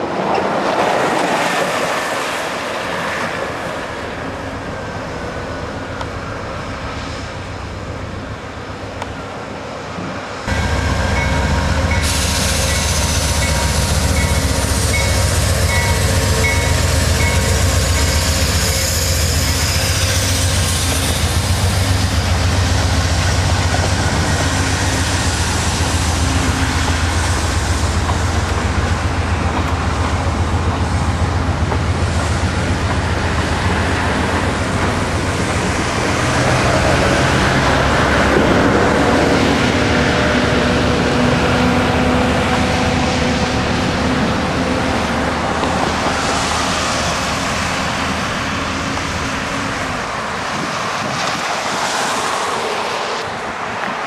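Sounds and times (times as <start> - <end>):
train rumbling past: 0.0 - 54.0
bus passing: 9.8 - 54.0.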